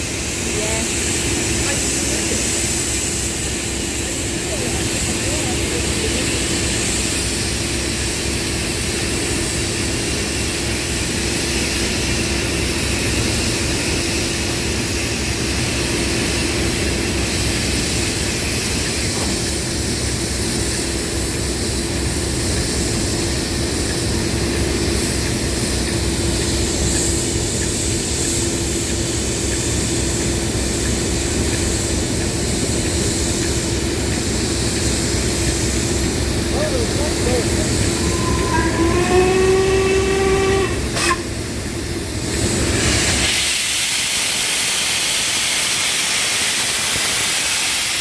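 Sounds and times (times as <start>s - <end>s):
locomotive engine running: 0.0s - 47.9s.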